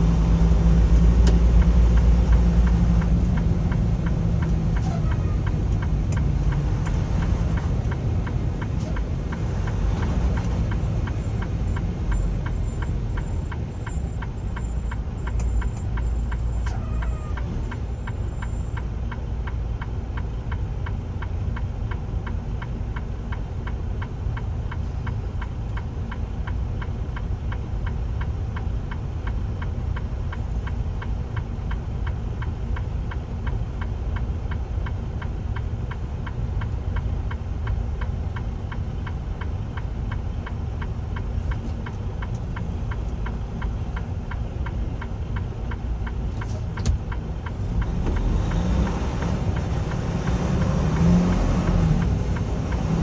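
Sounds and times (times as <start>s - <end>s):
low vehicle rumble: 0.0s - 53.0s
turn signal ticking: 0.0s - 53.0s.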